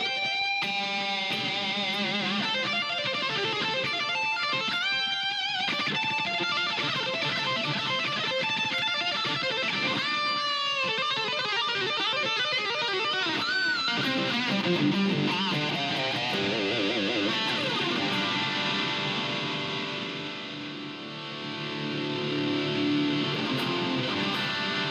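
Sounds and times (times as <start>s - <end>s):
distorted electric guitar lead: 0.0s - 24.9s.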